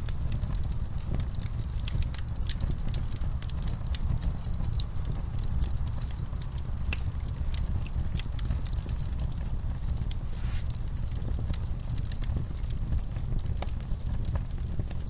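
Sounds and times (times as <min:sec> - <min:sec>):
fireplace fire crackling and popping: 0:00.0 - 0:15.0
low rumble of flames: 0:00.0 - 0:15.0.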